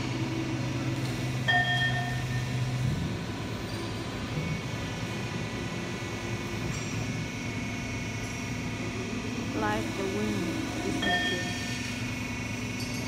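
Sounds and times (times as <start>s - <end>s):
machine humming and rumbling: 0.0s - 13.0s.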